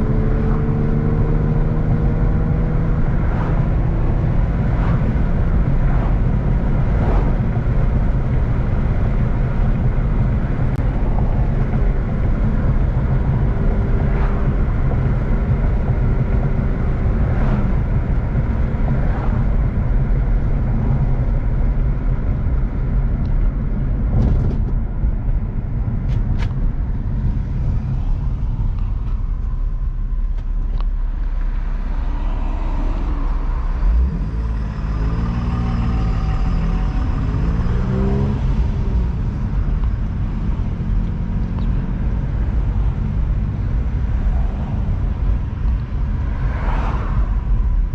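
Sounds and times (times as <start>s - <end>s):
car engine and exhaust droning: 0.0s - 47.9s
road and tyre noise: 0.0s - 47.9s.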